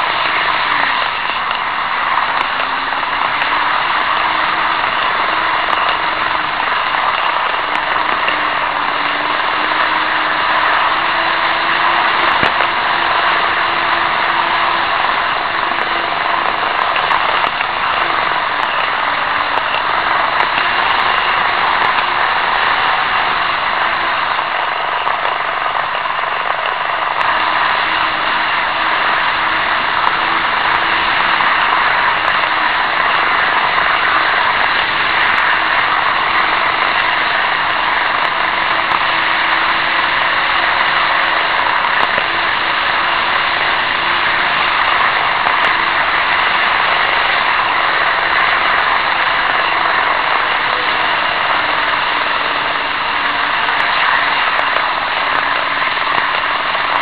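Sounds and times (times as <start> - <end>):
whir of wheels on rails: 0.0 - 57.0.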